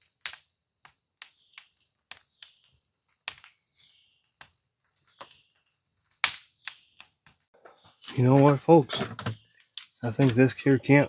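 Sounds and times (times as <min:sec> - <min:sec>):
campfire crackling and popping: 0:00.0 - 0:11.0
insects trilling: 0:00.0 - 0:11.0.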